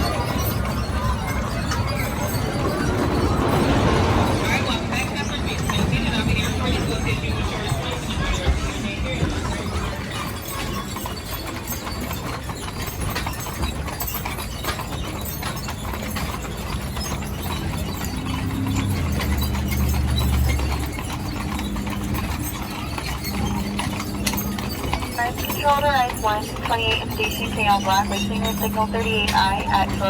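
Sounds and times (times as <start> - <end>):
horse hooves clip-clopping: 0.0 - 30.0
stagecoach rattling: 0.0 - 30.0.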